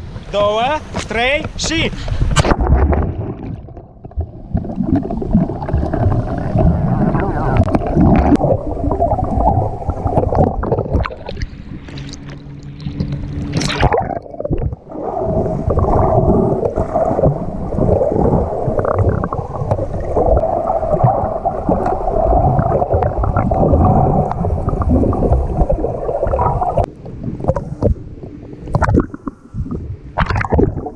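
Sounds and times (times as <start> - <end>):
steady hum: 0.0 - 30.9
water rushing along boat hull: 0.0 - 30.9
wind rumbling on microphone: 0.0 - 30.9.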